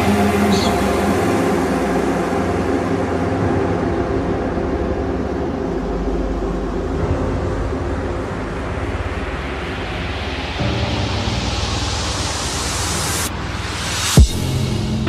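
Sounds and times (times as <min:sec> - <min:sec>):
electronic background music: 0:00.0 - 0:15.0.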